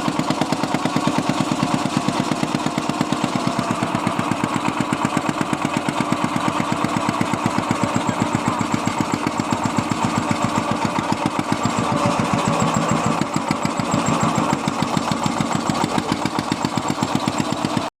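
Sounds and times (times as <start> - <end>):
small boat engine running: 0.0 - 17.9.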